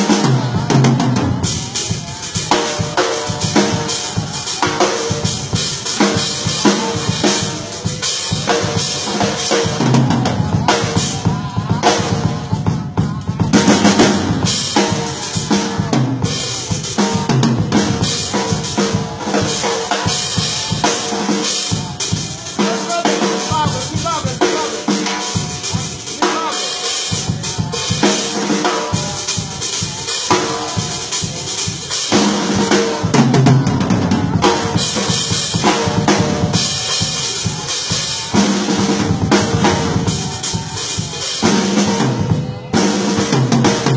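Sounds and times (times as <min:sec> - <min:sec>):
drum kit playing rapidly: 0:00.0 - 0:43.9.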